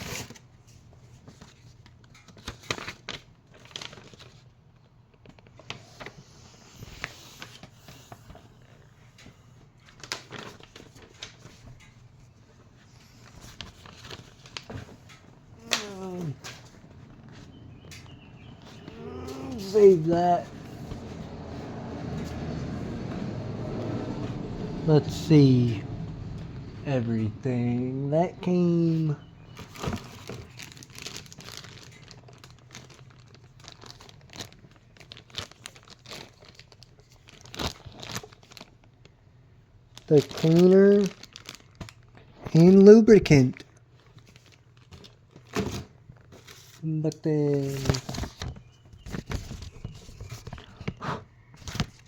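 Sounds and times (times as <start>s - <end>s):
packaging rustling and clicks: 0.0s - 6.1s, 7.0s - 21.4s, 29.4s - 39.2s, 39.9s - 52.0s.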